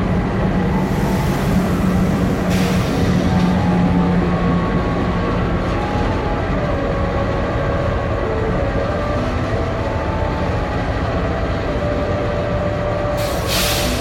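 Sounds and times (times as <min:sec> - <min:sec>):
diesel locomotive idling: 0:00.0 - 0:14.0.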